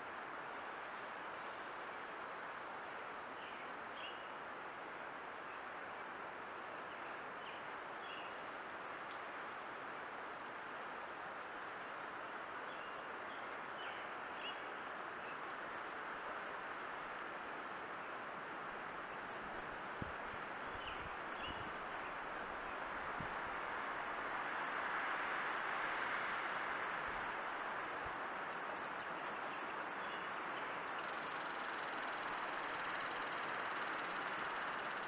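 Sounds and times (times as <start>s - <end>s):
microphone hiss: 0.0s - 35.0s.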